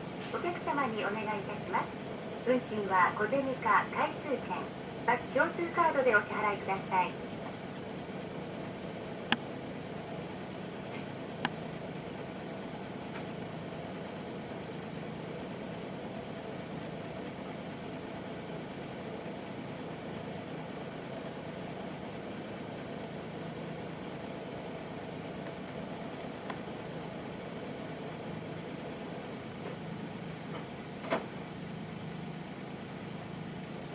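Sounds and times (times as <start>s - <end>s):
diesel bus engine idling: 0.0s - 33.9s.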